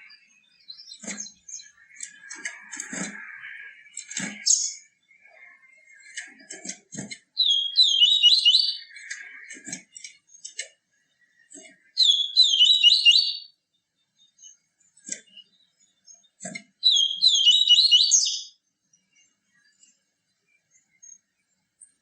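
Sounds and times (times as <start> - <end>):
bird twittering song: 0.0 - 22.0.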